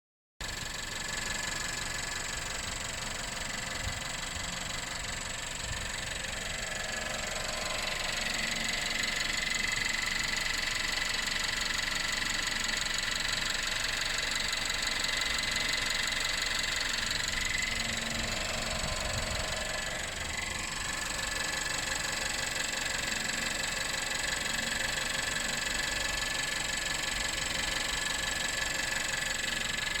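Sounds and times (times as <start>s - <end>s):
car engine idling with clatter: 0.4s - 30.0s.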